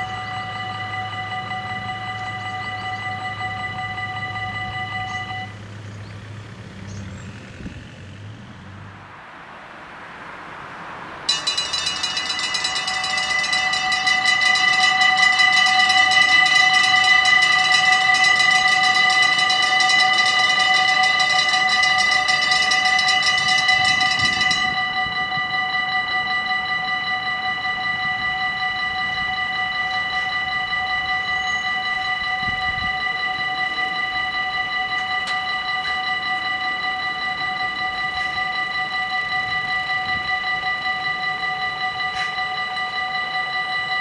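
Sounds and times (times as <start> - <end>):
level crossing warning bells ringing: 0.0 - 9.0, 11.3 - 44.0.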